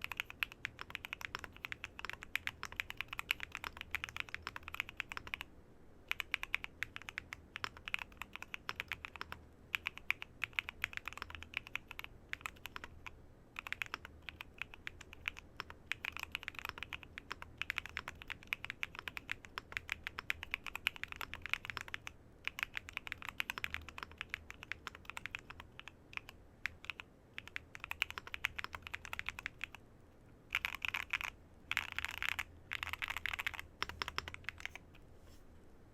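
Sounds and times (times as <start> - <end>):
mechanical keyboard typing: 0.0 - 5.5, 6.1 - 29.8, 30.5 - 34.8.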